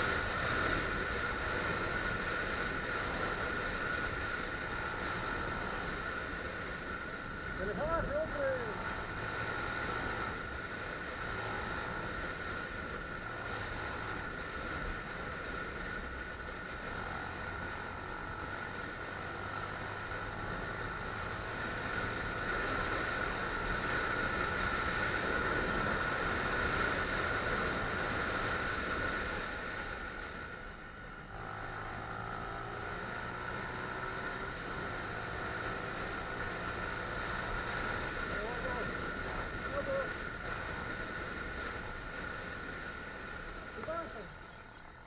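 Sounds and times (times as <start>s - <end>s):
constant whine: 0.0s - 45.0s
motorcycle engine: 0.0s - 45.0s.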